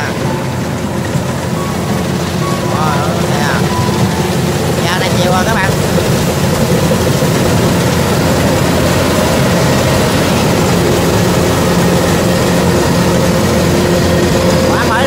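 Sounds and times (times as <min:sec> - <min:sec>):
harvester engine drone: 0:00.0 - 0:15.0.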